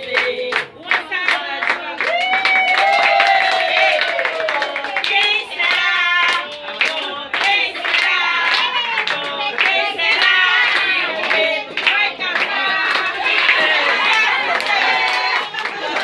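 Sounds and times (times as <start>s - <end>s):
hand clapping: 0.0s - 3.3s, 4.0s - 16.0s
voices singing together: 0.0s - 16.0s.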